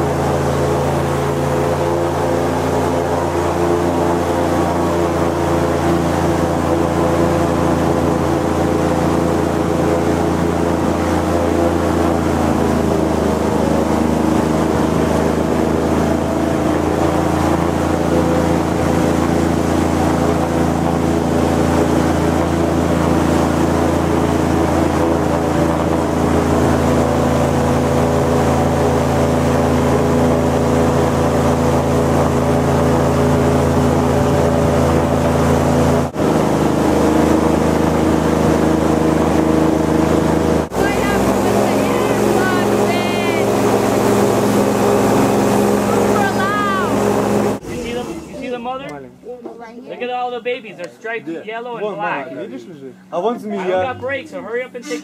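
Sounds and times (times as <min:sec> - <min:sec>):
airboat engine and propeller drone: 0:00.0 - 0:49.0.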